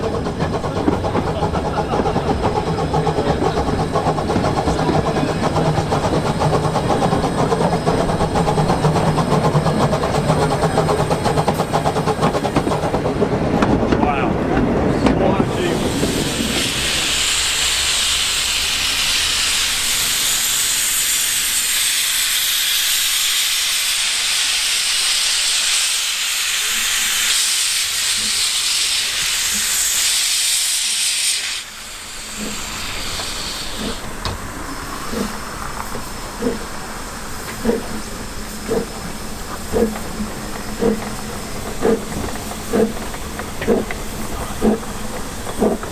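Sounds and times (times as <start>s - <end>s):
soft locomotive exhaust beats: 0.0s - 45.9s
steam locomotive hissing: 0.0s - 45.9s.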